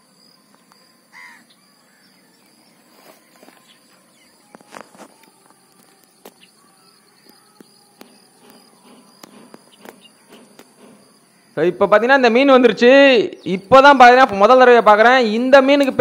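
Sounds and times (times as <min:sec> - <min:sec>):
bird chirp: 0:00.0 - 0:16.0
insect drone: 0:00.0 - 0:16.0.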